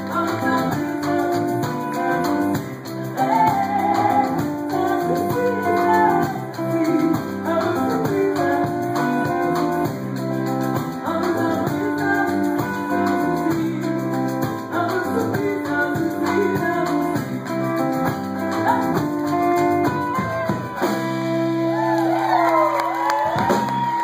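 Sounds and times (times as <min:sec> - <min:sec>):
woman singing: 0:00.0 - 0:17.9, 0:18.5 - 0:20.5
live band playing: 0:00.0 - 0:24.0.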